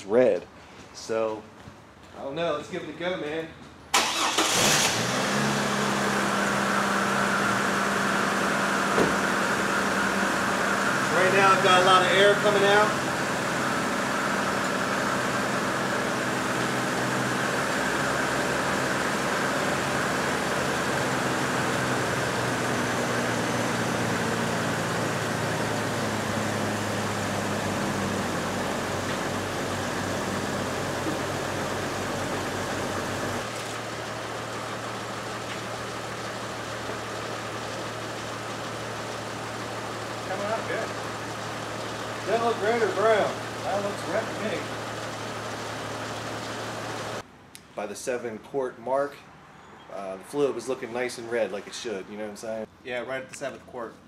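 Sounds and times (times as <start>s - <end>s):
car engine idling: 4.0s - 47.2s.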